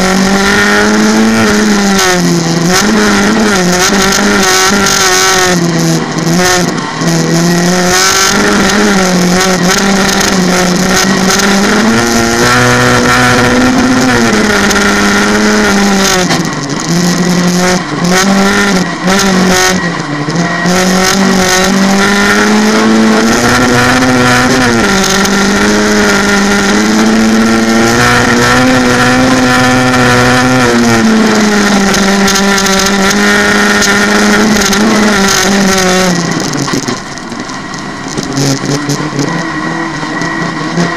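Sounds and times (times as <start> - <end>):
car engine at high revs: 0.0 - 40.9.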